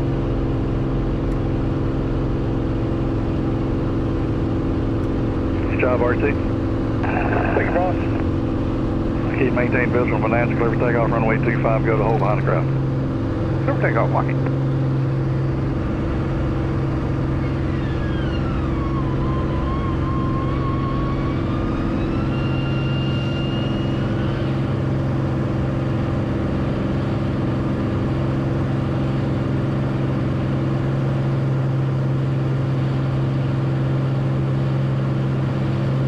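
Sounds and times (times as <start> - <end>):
propeller plane engine drone: 0.0 - 36.0.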